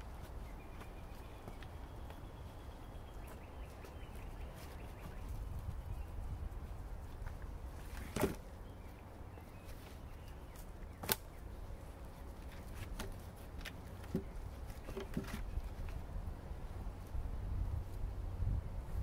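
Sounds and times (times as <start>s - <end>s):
knocks and scuffs on dirt and logs: 0.0s - 16.2s.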